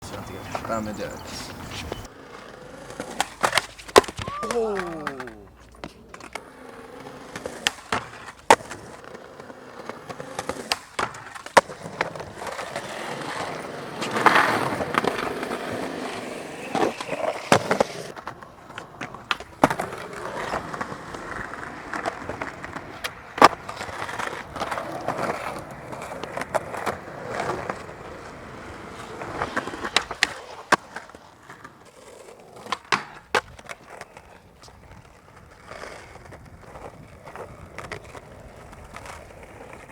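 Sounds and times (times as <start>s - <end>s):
skateboard clacks: 0.0s - 39.9s
skateboards rolling: 0.0s - 39.9s.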